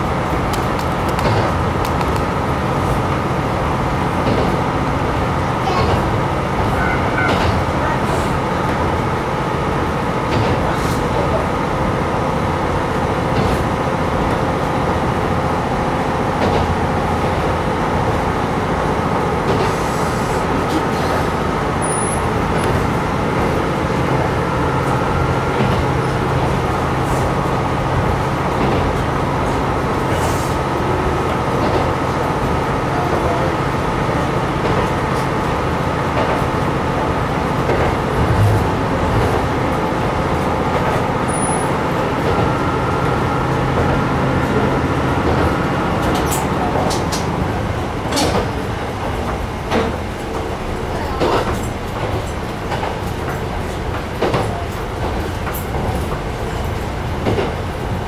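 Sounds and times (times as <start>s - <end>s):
diesel engine drone: 0.0s - 58.0s
wheel and rail noise: 0.0s - 58.0s.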